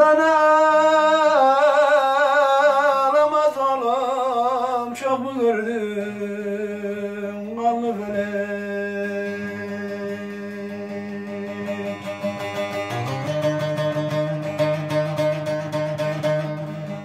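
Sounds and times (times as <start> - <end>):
long-necked lute playing: 0.0 - 17.0
man singing with vibrato: 0.0 - 17.0.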